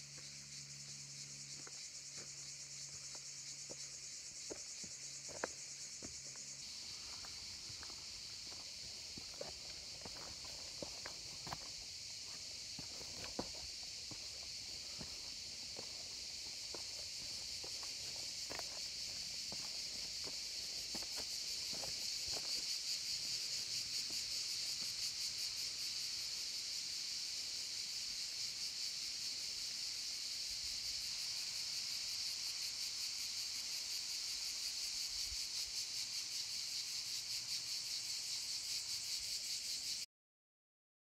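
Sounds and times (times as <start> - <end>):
high-pitched insect chorus: 0.0 - 40.1.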